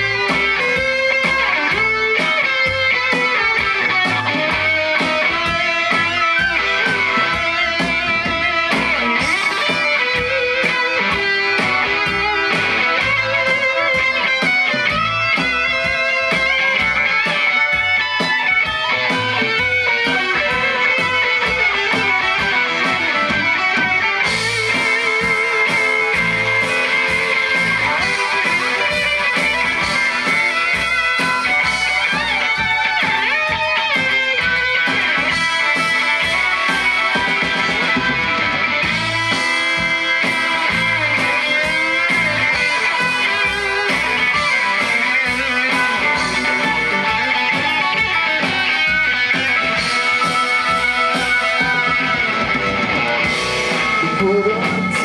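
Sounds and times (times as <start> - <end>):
drum kit: 0.0 - 55.0
electric guitar: 0.0 - 55.0
upright bass: 0.0 - 55.0.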